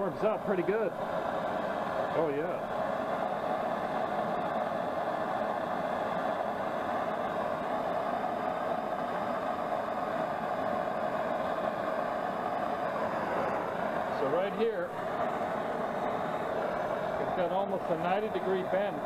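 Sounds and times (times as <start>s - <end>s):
blowtorch flame hissing: 0.0s - 19.0s.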